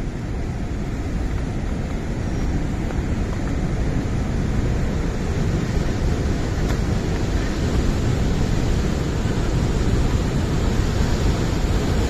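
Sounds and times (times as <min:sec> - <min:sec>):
large waterfall rushing: 0:00.0 - 0:12.0.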